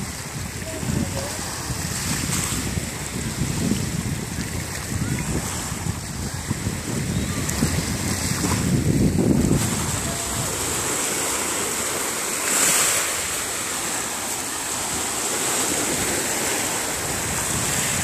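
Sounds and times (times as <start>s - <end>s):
waves washing over pebbles: 0.0s - 18.0s
wind buffeting microphone: 0.0s - 18.0s.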